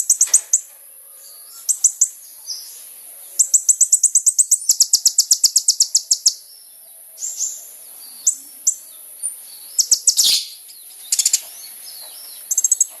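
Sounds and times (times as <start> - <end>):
bird chirping and trilling: 0.0 - 13.0.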